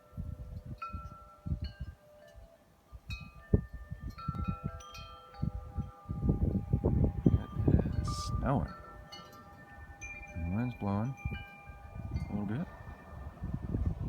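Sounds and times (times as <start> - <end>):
wind buffeting microphone: 0.0 - 14.0
wind chimes ringing: 0.0 - 14.0.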